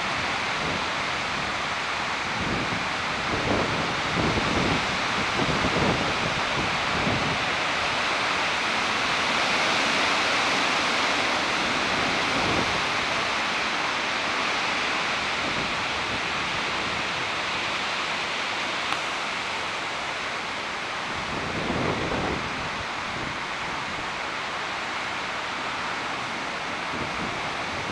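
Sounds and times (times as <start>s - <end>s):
gusts buffeting microphone: 0.0s - 18.2s, 21.0s - 24.1s, 26.8s - 27.9s
wind rushing through trees: 0.0s - 27.9s.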